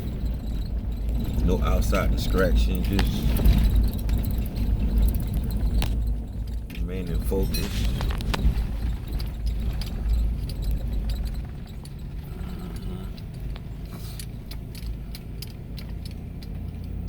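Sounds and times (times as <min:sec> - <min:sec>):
clicks and rattles: 0:00.0 - 0:17.0
low road rumble: 0:00.0 - 0:17.0.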